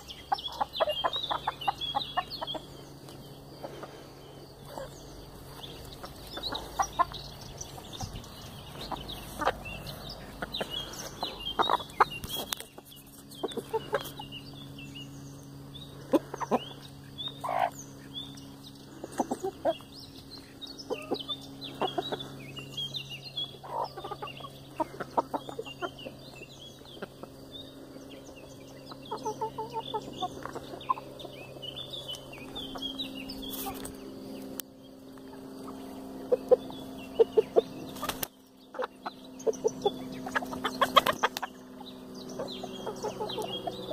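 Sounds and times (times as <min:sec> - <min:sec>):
hens clucking: 0:00.0 - 0:14.8, 0:15.5 - 0:43.9.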